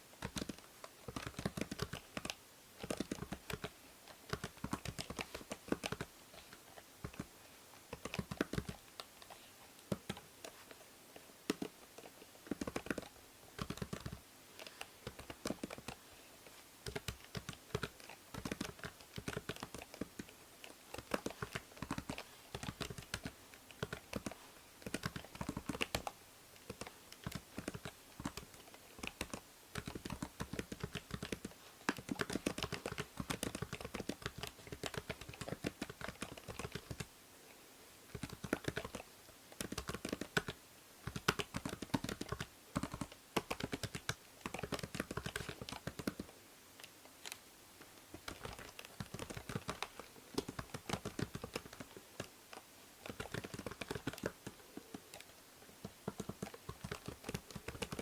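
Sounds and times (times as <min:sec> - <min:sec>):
faint microphone hiss: 0:00.0 - 0:58.0
typing on computer keyboard: 0:00.2 - 0:07.3, 0:07.9 - 0:10.6, 0:11.5 - 0:16.0, 0:16.8 - 0:37.1, 0:38.1 - 0:47.4, 0:48.1 - 0:58.0.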